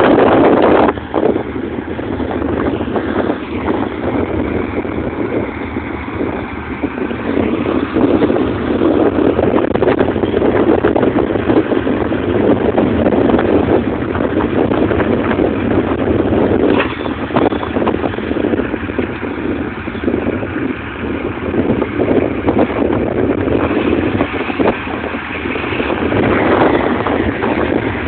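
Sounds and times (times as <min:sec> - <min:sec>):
baler working: 0:00.0 - 0:28.0
tractor engine running: 0:00.0 - 0:28.0.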